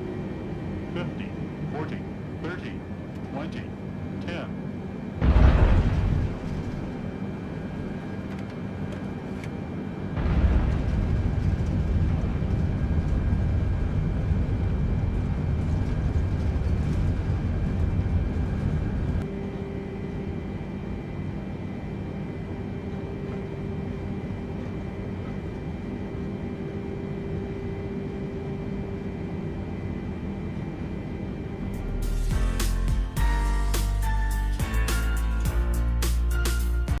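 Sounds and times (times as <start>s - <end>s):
steady hum: 0.0s - 36.3s
jet engines rumbling: 0.0s - 37.0s.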